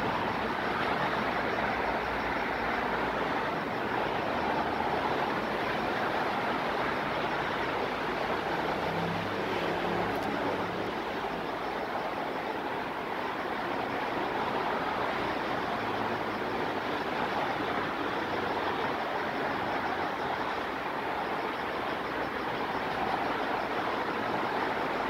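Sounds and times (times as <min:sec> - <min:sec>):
steady outdoor rushing noise: 0:00.0 - 0:25.0.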